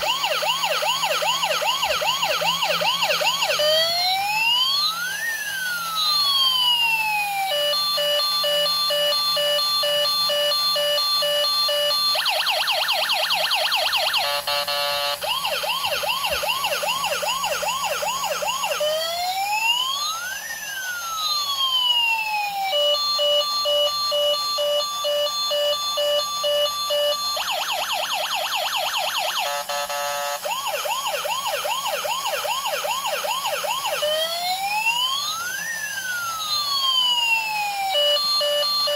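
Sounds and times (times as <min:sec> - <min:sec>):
siren beeping tone: 0:00.0 - 0:20.4, 0:22.4 - 0:38.9
electronic siren wailing: 0:00.0 - 0:38.9
siren fast yelp: 0:00.0 - 0:38.9.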